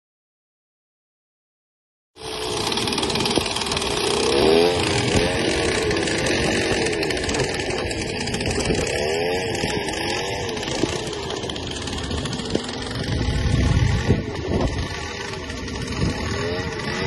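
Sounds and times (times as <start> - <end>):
small engine running hard: 2.2 - 17.0.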